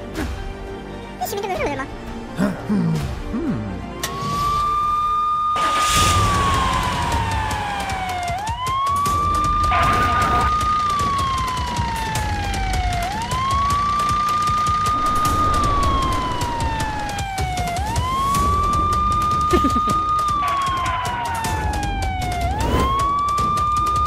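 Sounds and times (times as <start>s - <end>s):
police siren wailing: 4.0s - 24.0s.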